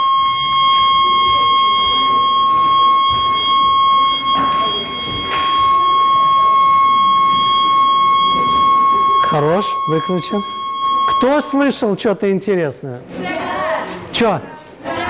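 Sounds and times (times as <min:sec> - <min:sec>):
high-pitched electronic tone: 0:00.0 - 0:12.2.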